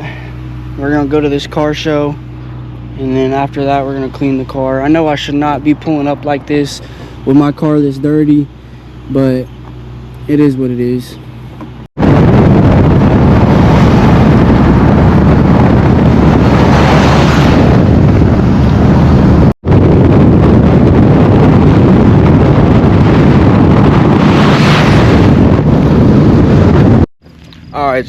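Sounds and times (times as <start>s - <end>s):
car engine and exhaust rumbling: 0.0s - 28.0s.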